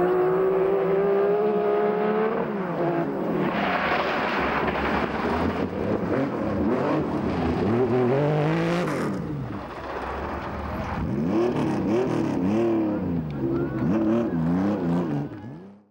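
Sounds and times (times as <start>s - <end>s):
gravel and tyre noise: 0.0s - 15.9s
rally car engine revving: 0.0s - 15.9s.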